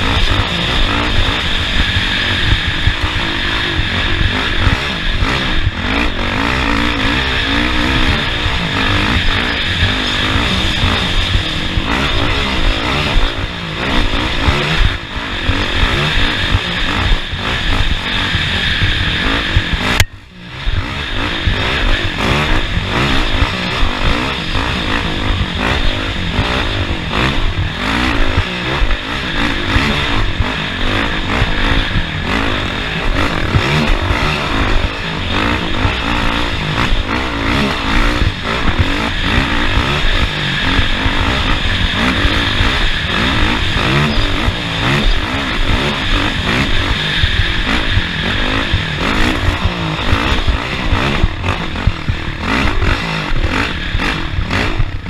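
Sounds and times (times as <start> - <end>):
racing vehicle engine revving: 0.0 - 55.0.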